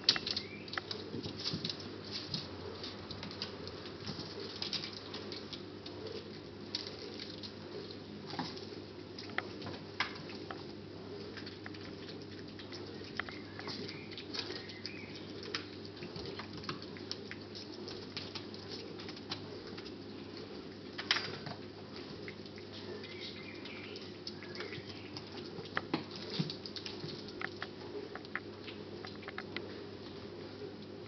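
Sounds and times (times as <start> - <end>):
small paws pattering: 0.0 - 31.0.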